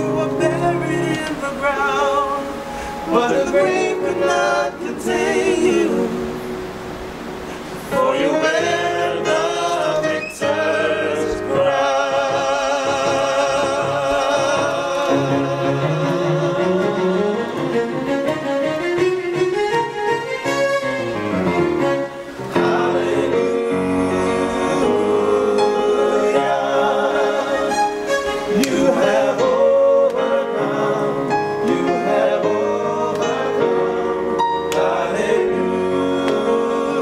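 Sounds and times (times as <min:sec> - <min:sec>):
male vocal group singing gospel: 0:00.0 - 0:06.6, 0:07.8 - 0:18.1, 0:22.4 - 0:37.0
musical accompaniment: 0:00.0 - 0:37.0.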